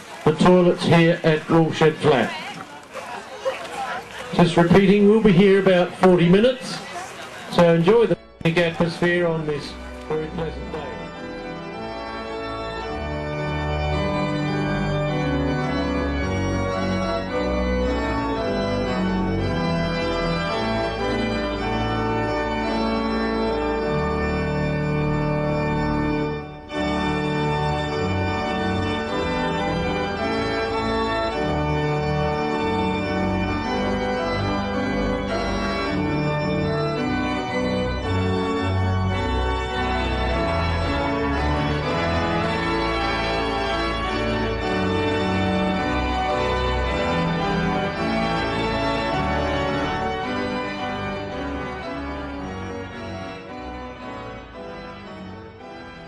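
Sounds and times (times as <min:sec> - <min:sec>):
organ music: 0:00.0 - 0:56.0.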